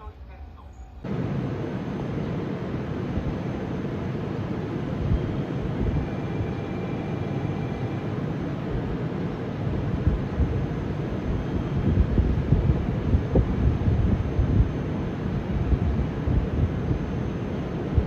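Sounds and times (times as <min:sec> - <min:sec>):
faint high whine: 0:00.0 - 0:18.0
subway train running: 0:00.0 - 0:18.0.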